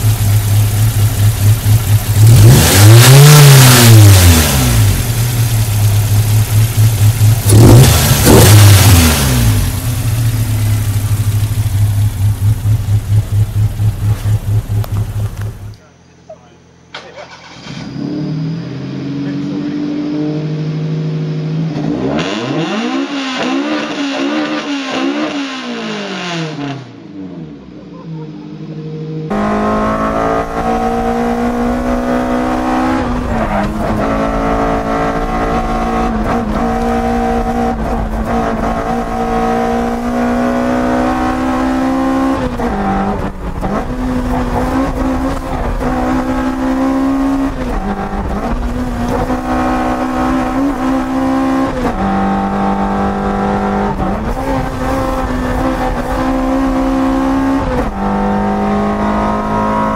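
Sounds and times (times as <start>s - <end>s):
car engine revving: 0.0s - 15.8s, 16.9s - 59.9s.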